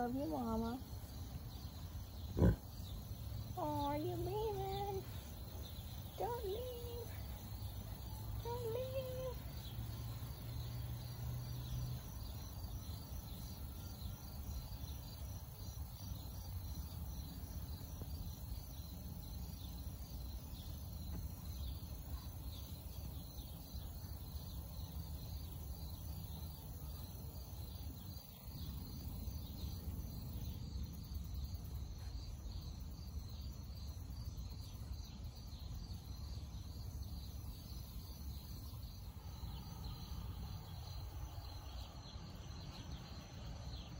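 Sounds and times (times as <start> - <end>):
insects chirping: 0.0 - 43.9.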